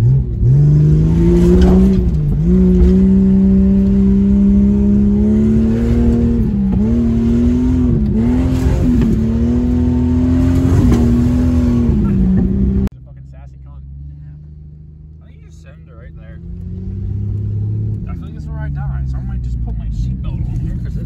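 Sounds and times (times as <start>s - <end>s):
car engine revving hard: 0.0s - 12.9s, 16.2s - 21.0s.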